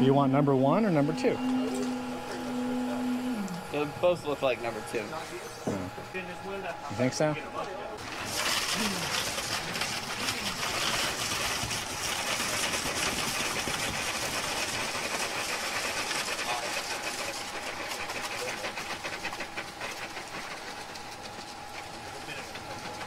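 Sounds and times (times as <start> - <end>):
concrete pump hissing: 0.0 - 23.0.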